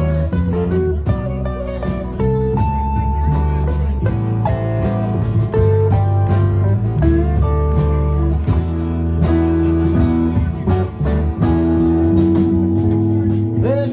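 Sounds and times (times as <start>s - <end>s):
live band music with guitar: 0.0s - 13.9s
low bass line: 0.0s - 13.9s.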